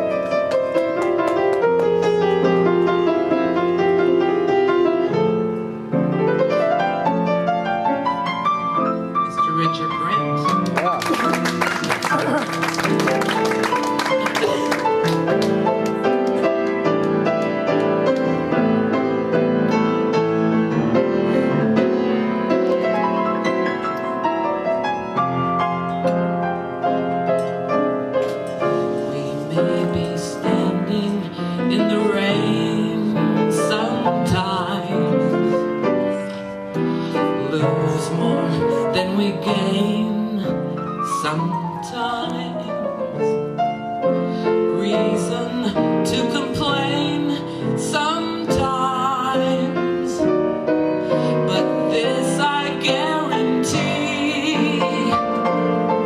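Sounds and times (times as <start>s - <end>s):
solo jazz piano: 0.0s - 56.0s.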